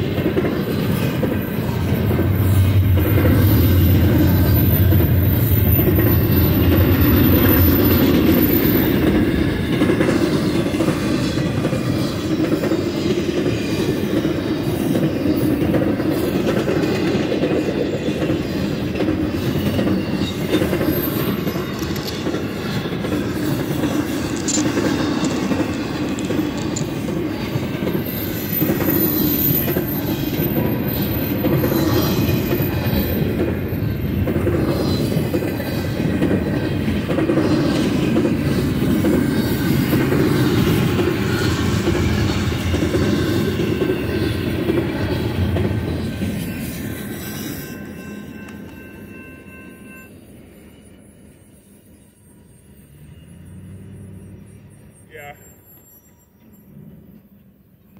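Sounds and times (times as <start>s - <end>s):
freight train rolling past: 0.0s - 57.9s.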